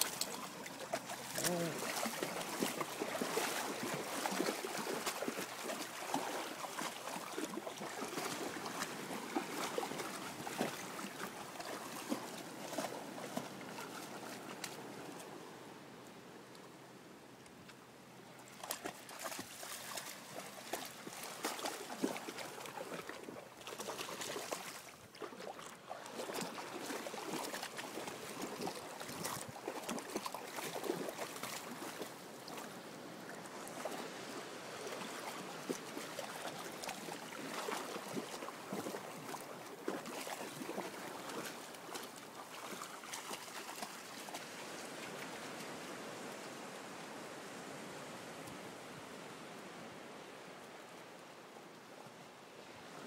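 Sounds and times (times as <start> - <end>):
seawater splashing and sloshing: 0.0 - 15.6, 18.4 - 48.6.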